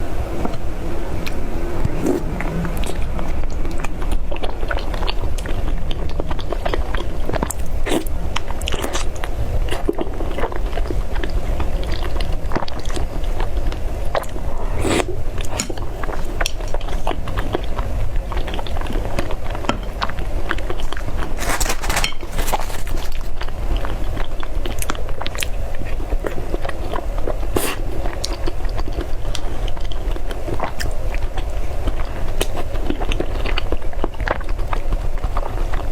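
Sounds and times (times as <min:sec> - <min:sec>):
chewing with wet mouth clicks: 0:01.2 - 0:21.4, 0:22.9 - 0:35.9.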